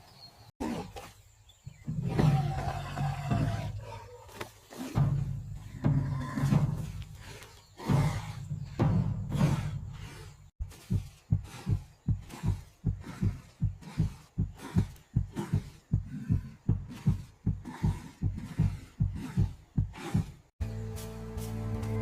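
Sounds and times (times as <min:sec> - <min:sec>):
dull low thumps: 0:01.6 - 0:03.9, 0:05.0 - 0:22.0.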